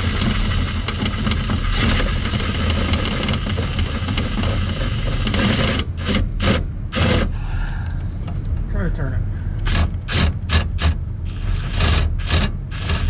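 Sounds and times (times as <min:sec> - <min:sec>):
machine running with rumble: 0:00.0 - 0:13.0.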